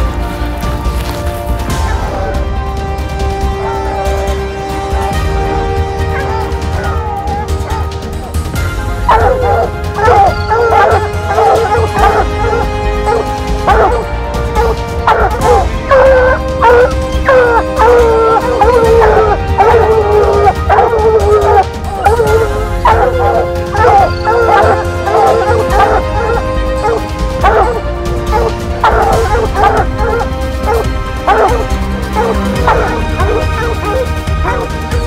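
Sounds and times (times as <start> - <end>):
background music: 0.0 - 35.0
hounds baying and barking: 0.0 - 35.0.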